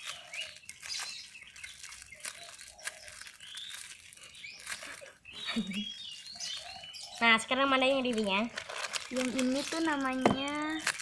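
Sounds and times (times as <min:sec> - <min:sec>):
crinkling and rustling handling: 0:00.0 - 0:11.0.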